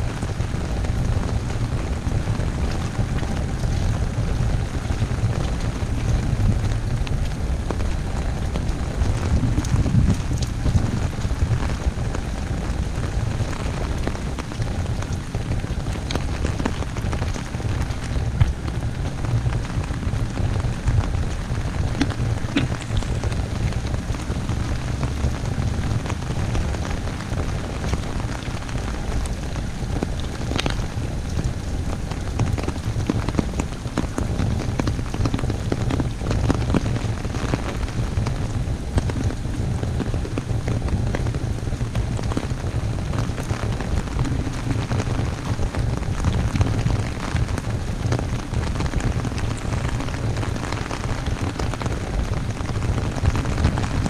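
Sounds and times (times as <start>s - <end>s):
heavy rain on an umbrella: 0.0s - 54.0s.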